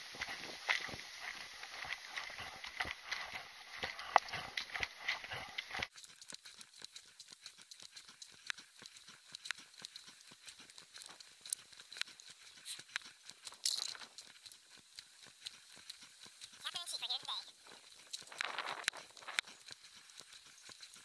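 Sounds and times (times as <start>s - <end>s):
faint clicking and rattling: 0.0s - 21.0s.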